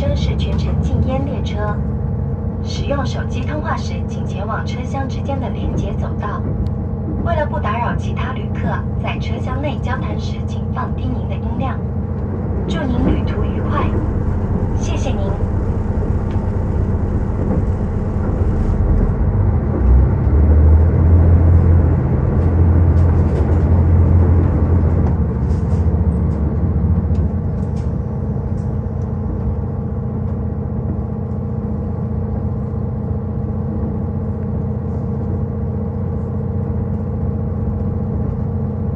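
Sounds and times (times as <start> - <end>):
railcar engine drone: 0.0 - 38.9.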